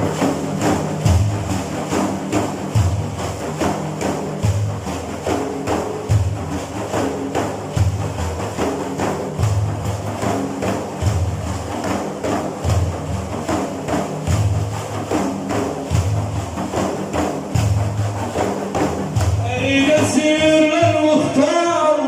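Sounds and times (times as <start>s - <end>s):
drum jingles: 0.0s - 22.0s
frame drums beating: 0.0s - 22.0s.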